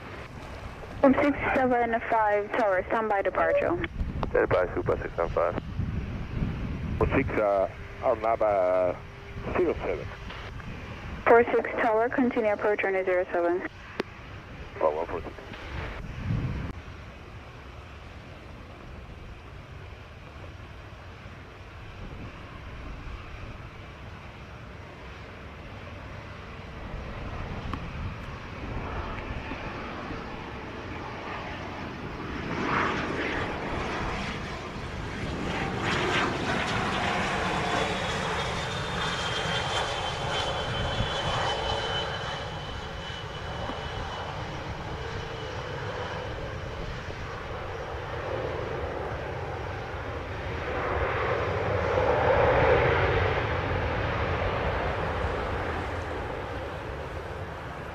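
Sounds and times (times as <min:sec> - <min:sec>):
jet engines whining: 0:00.0 - 0:57.9.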